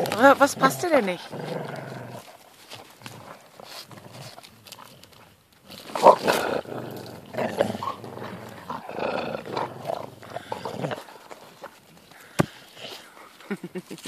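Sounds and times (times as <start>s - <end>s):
dog growling: 0.0s - 13.4s.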